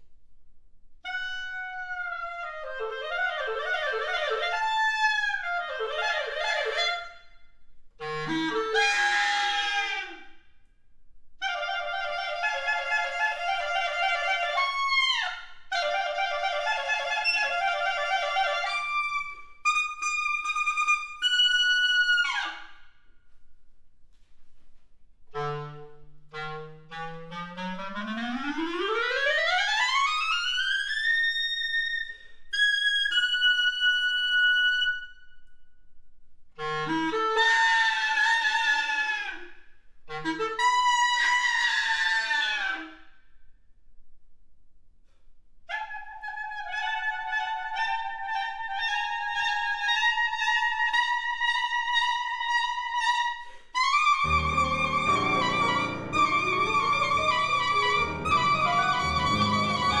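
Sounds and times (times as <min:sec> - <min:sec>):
clarinet solo: 0:01.0 - 0:07.1, 0:08.0 - 0:10.4, 0:11.4 - 0:22.6, 0:25.3 - 0:35.2, 0:36.6 - 0:39.4, 0:40.1 - 0:42.9, 0:45.7 - 1:00.0.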